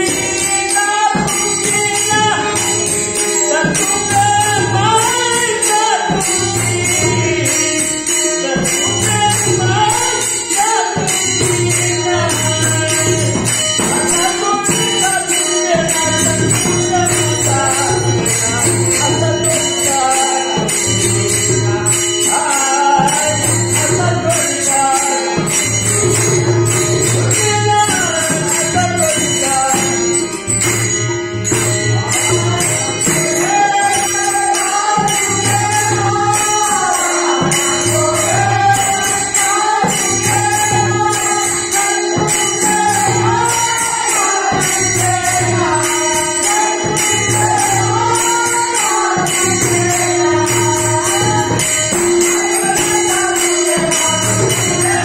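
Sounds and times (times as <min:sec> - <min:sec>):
harmonium: 0:00.0 - 0:55.0
man singing: 0:00.0 - 0:55.0.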